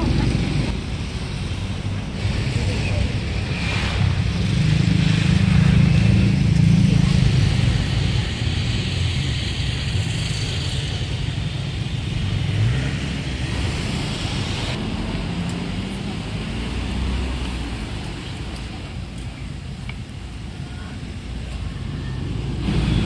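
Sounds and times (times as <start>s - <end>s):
steady traffic noise: 0.0s - 23.0s.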